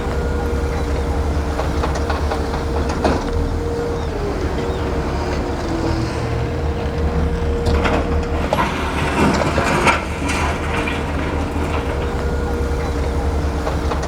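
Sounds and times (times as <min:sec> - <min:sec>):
diesel machinery running: 0:00.0 - 0:14.0
held whine: 0:00.0 - 0:14.0.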